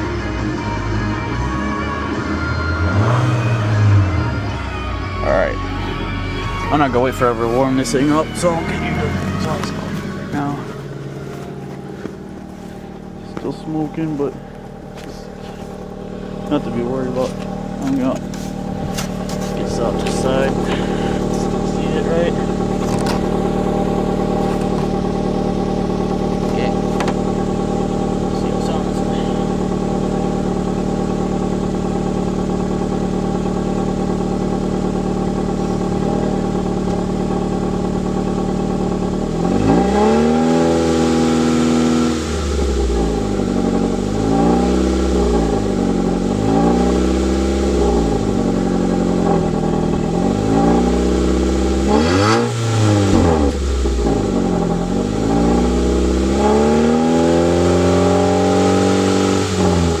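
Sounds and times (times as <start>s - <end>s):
car engine idling: 0.0s - 60.0s
car engine revving: 0.0s - 60.0s.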